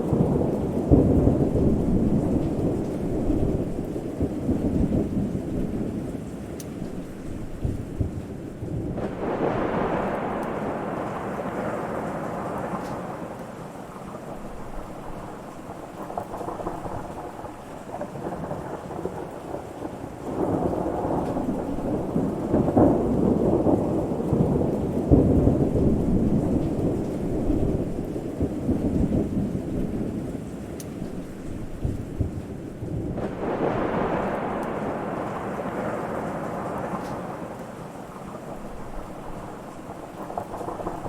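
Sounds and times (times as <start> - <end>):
steady rain: 0.0 - 41.0
thunder rumbling: 0.0 - 41.0.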